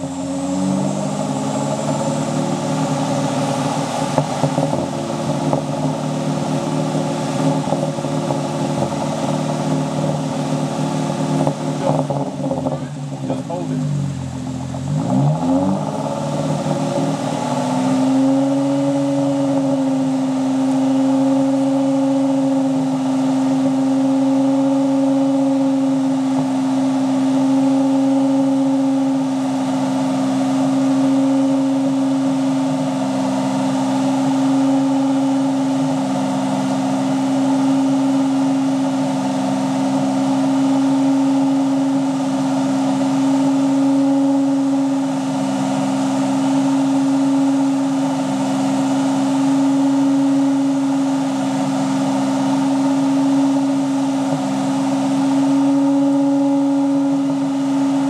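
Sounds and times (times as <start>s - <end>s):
car engine at raised revs: 0.0s - 58.0s.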